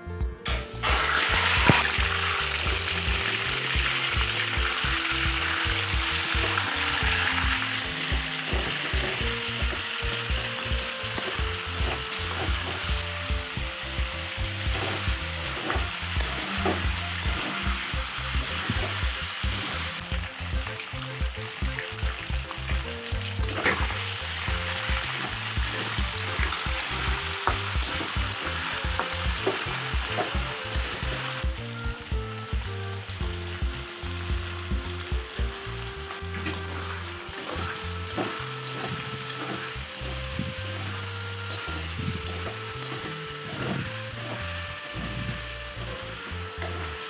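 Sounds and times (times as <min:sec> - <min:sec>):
food sizzling in hot oil: 0:00.5 - 0:47.0.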